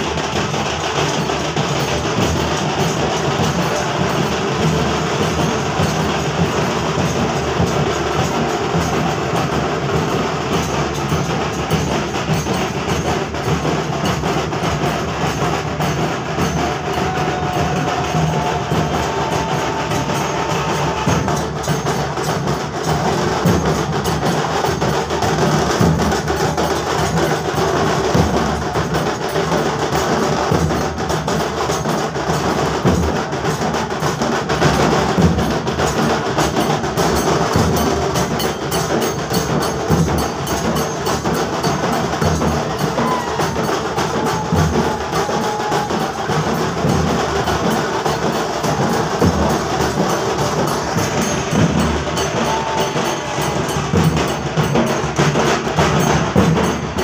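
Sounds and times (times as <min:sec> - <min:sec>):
procession band drums and percussion: 0:00.0 - 0:57.0.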